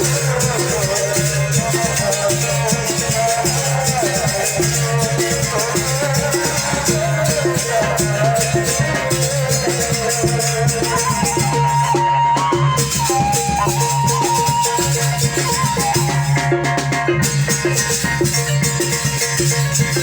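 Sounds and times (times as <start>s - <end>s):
percussion strokes: 0.0s - 20.0s
wavering ensemble melody: 0.0s - 20.0s.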